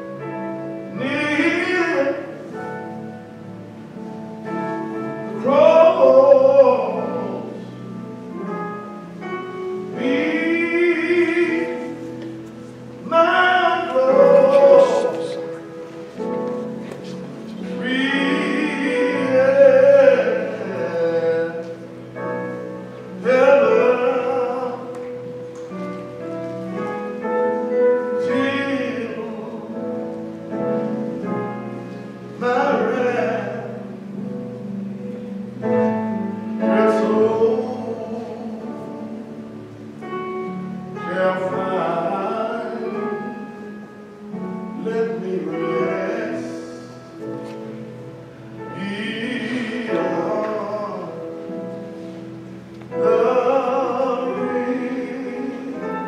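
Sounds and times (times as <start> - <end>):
person singing a slow hymn: 0.0 - 56.0
sustained keyboard chords: 0.0 - 56.0.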